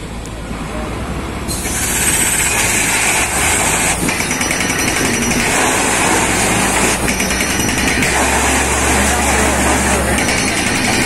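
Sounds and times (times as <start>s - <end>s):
drilling rig engine and compressor: 0.0s - 11.0s
drill bit hammering clatter: 1.5s - 11.0s.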